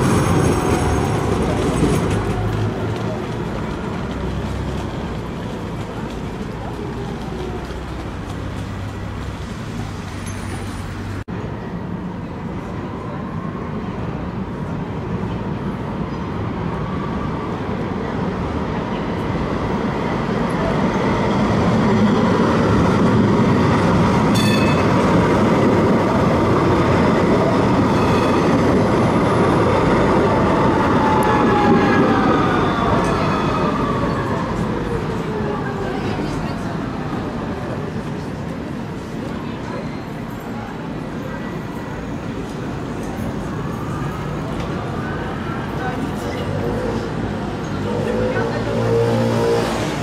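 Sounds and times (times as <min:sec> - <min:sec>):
tram rumbling on rails: 0:00.0 - 0:50.0.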